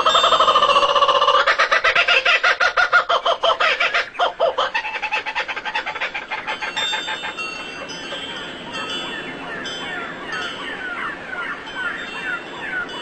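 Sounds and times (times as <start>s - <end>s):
bird chattering call: 0.0s - 12.5s.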